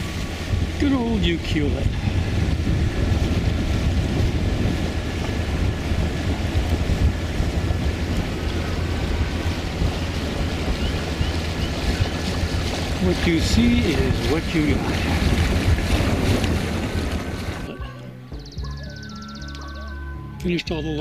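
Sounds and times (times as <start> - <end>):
water washing past hull: 0.0 - 18.6
wind noise on microphone: 0.0 - 20.6
boat engine droning: 0.0 - 21.0.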